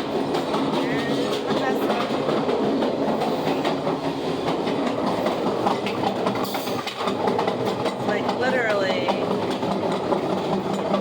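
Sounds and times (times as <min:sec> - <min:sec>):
train car rumbling and rattling: 0:00.0 - 0:11.0.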